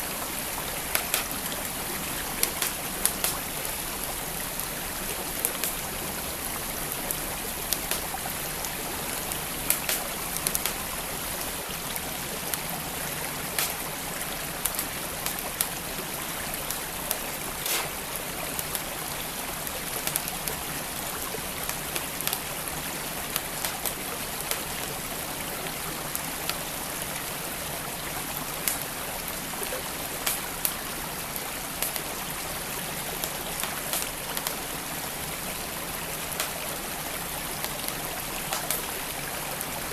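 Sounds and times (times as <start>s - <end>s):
creek water flowing: 0.0s - 39.9s
wood fire crackling and popping: 0.5s - 19.0s, 19.9s - 25.1s, 28.5s - 39.2s.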